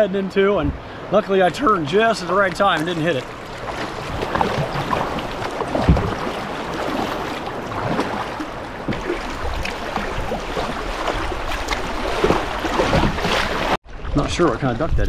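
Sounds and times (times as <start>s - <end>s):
water rushing around kayak hull: 0.0s - 14.5s
small water splashes: 0.9s - 14.3s.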